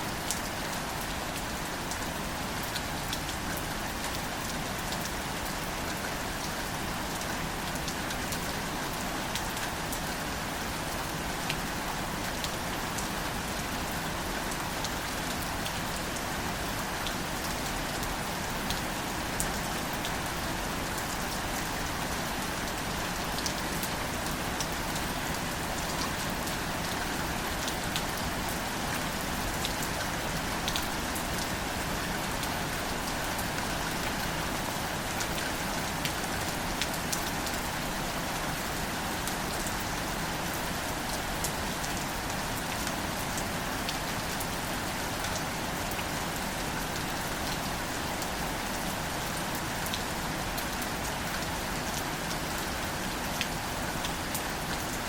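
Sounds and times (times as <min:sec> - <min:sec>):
gentle rain on leaves: 0:00.0 - 0:55.0.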